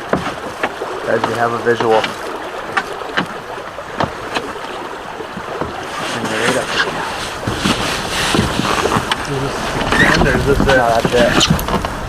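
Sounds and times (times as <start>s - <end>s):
river water washing: 0.0s - 12.0s
wind: 0.0s - 12.0s.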